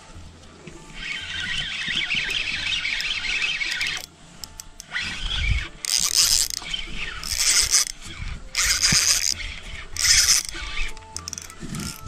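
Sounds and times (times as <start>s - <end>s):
fishing reel gears whirring: 0.8s - 12.0s.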